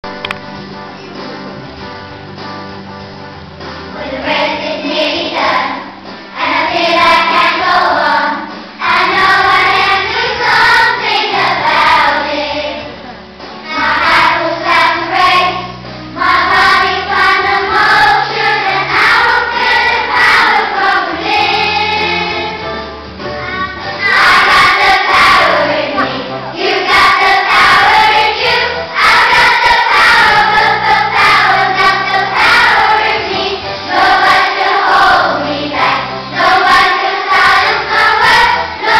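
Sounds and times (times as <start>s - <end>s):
children's choir singing: 3.9s - 13.0s, 13.6s - 38.9s.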